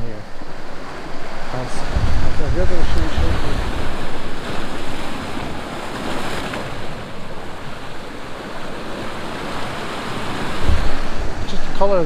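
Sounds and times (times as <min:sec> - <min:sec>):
sea surf: 0:00.0 - 0:12.0
wind buffeting microphone: 0:00.0 - 0:12.0.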